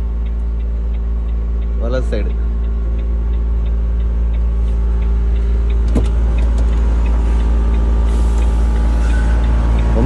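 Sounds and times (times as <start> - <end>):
diesel engine idling: 0.0 - 10.0
faint regular ticking: 0.0 - 10.0.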